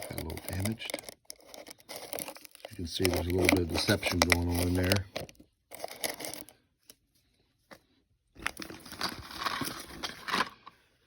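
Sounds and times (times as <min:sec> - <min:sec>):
packaging crinkling and rustling: 0:00.0 - 0:06.6, 0:08.4 - 0:10.8.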